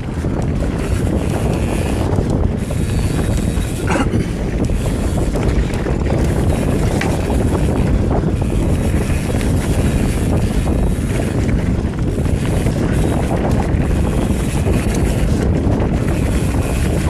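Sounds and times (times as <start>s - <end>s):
bike clattering over bumps: 0.0s - 17.0s
bike tyres rolling on dirt: 0.0s - 17.0s
wind buffeting microphone: 0.0s - 17.0s.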